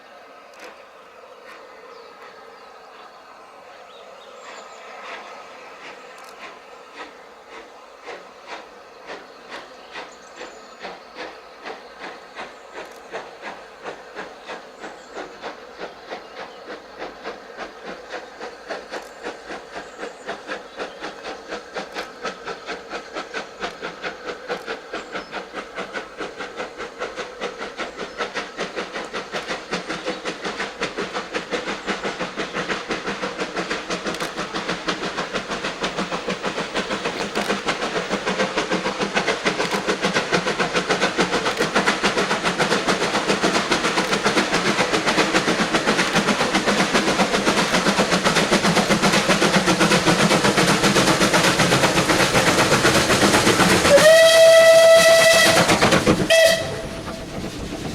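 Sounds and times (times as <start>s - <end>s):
steam locomotive exhaust beats: 0.0s - 57.9s.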